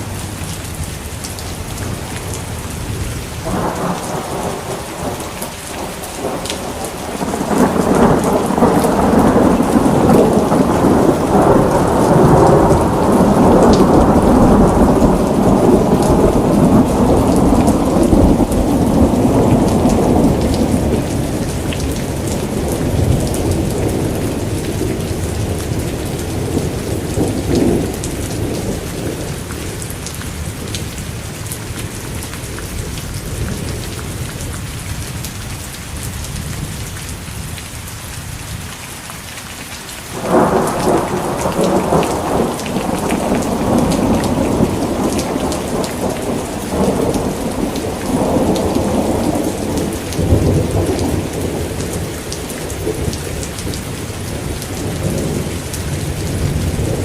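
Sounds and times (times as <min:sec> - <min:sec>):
steady rain falling: 0:00.0 - 0:57.0
thunder rumbling: 0:01.3 - 0:34.2, 0:40.1 - 0:57.0.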